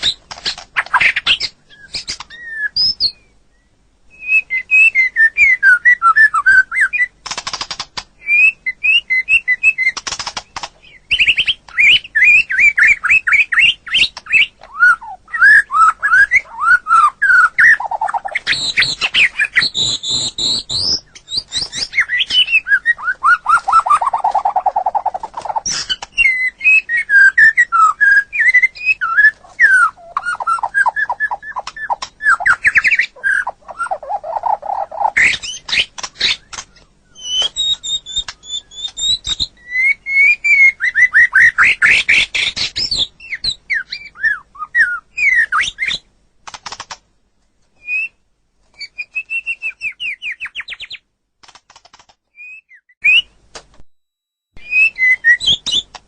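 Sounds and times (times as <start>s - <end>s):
songbird singing whistles and trills: 0.0s - 7.2s, 8.2s - 46.1s, 47.8s - 51.0s, 52.3s - 53.4s, 54.6s - 56.0s.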